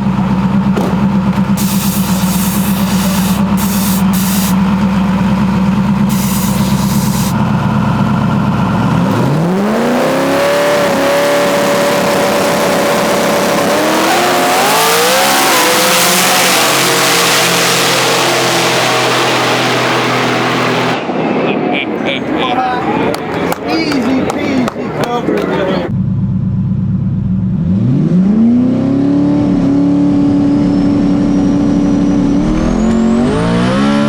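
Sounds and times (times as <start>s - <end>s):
pickup truck engine revving: 0.0s - 34.0s.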